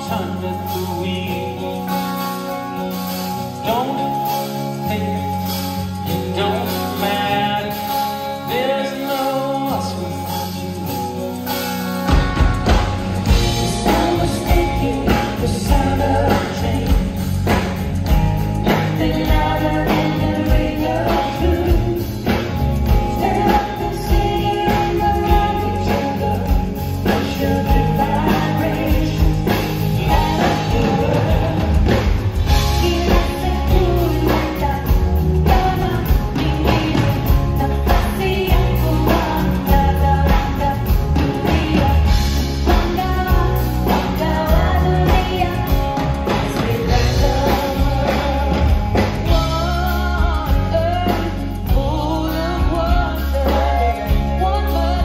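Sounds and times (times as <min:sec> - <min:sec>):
person singing: 0:00.0 - 0:55.0
piano: 0:00.0 - 0:55.0
soft rock band playing: 0:00.0 - 0:55.0.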